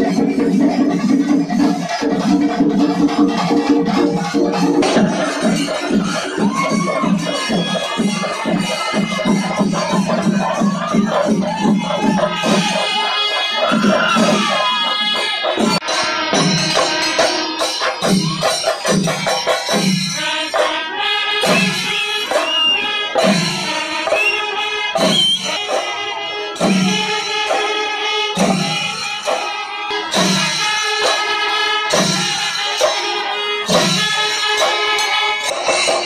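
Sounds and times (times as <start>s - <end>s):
brass band playing: 1.5s - 36.0s.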